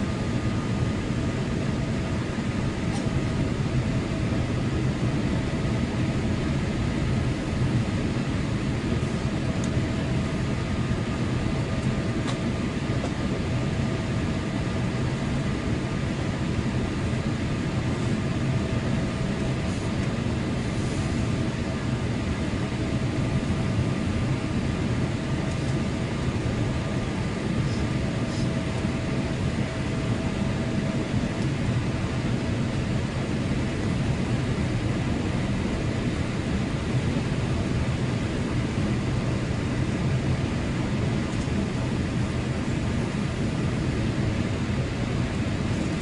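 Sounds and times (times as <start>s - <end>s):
aircraft cabin engine rumble: 0.0s - 46.0s.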